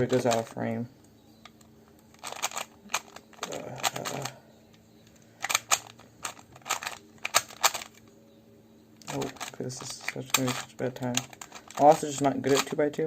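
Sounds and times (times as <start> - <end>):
plastic cube clacking turns: 0.1 - 0.5, 1.5 - 8.0, 9.0 - 12.8.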